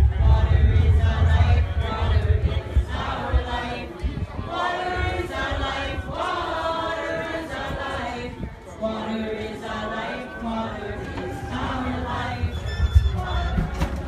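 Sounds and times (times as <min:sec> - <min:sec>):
crowd singing together: 0:00.0 - 0:14.0.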